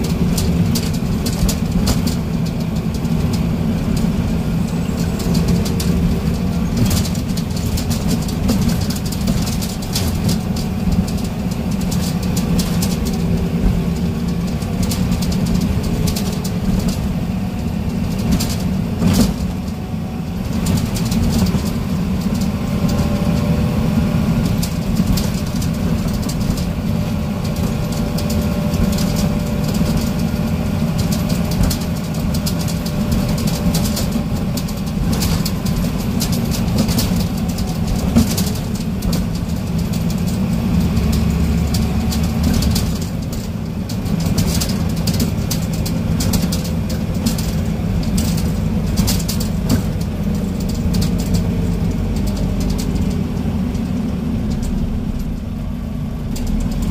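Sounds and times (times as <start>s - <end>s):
bus diesel engine drone: 0.0s - 56.9s
light rattles and knocks: 0.0s - 56.9s.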